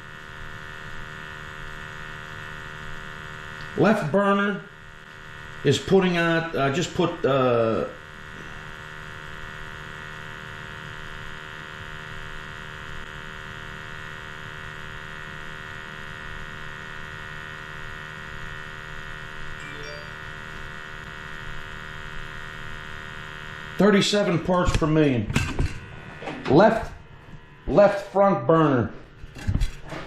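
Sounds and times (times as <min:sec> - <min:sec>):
steady hum of held tones: 0:00.0 - 0:30.0.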